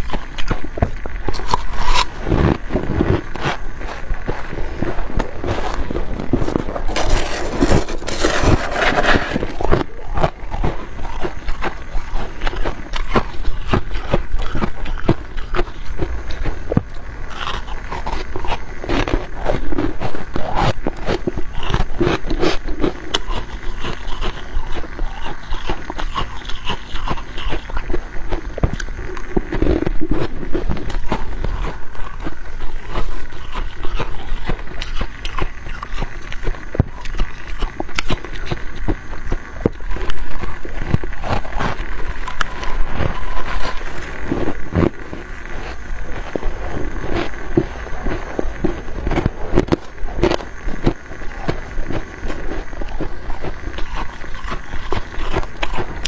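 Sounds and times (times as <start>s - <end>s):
crunching frost being chewed: 0.0s - 56.0s.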